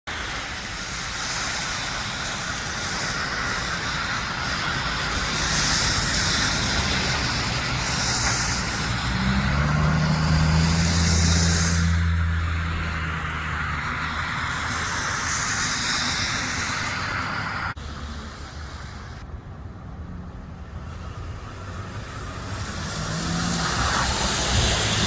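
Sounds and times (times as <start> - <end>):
tyre hiss of passing vehicles: 0.1 - 25.0.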